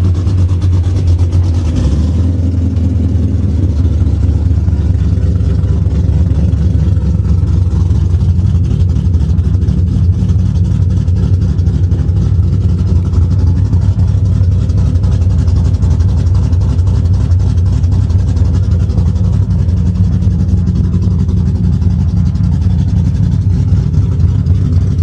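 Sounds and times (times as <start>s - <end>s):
car engine idling deep exhaust: 0.0s - 25.0s.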